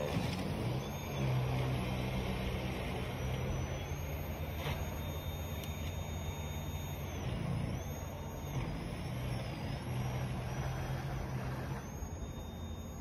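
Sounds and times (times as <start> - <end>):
electric snowblower motor whining: 0.0 - 13.0.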